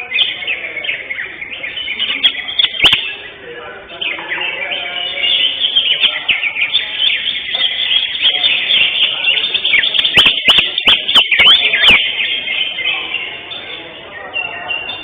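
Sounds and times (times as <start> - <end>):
birds chirping and whistling: 0.0 - 15.0
sharp down-slurred bird calls: 0.0 - 15.0.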